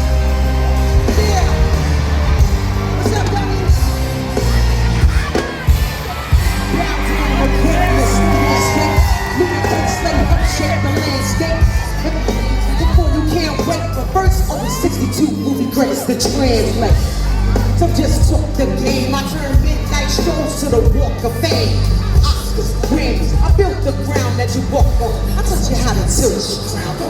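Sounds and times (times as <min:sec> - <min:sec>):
live hip-hop music with vocals: 0:00.0 - 0:27.0.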